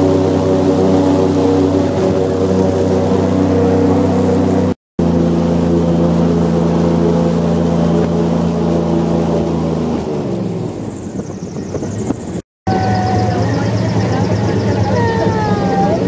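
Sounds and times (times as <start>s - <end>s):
airboat engine drone: 0.0s - 16.0s.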